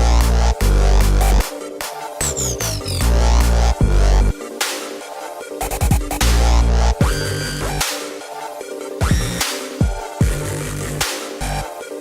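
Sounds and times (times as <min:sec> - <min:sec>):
dubstep music with heavy bass: 0:00.0 - 0:12.0.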